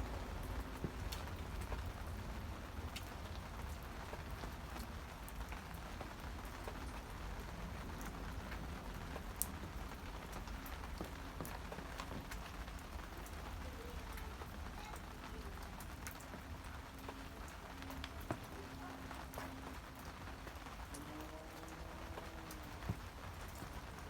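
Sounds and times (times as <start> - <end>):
rain drops pattering: 0.0 - 24.0.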